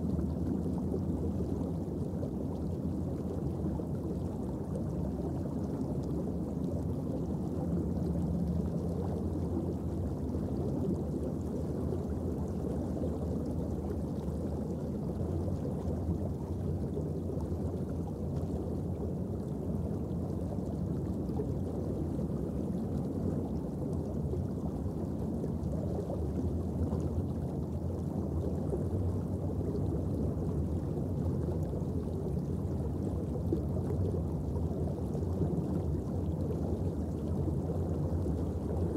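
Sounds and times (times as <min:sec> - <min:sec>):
low underwater rush: 0:00.0 - 0:38.9.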